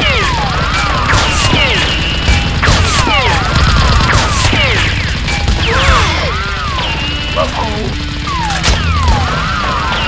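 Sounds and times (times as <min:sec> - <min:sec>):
gunfire bursts: 0:00.0 - 0:10.0
laser-like zaps: 0:00.0 - 0:10.0.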